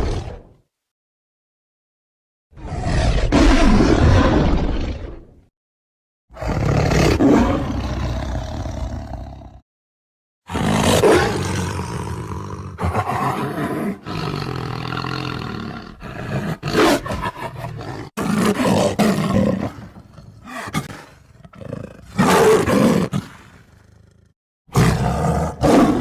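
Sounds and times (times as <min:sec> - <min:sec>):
tiger roaring: 0:02.6 - 0:05.3, 0:06.3 - 0:09.6, 0:10.5 - 0:26.0.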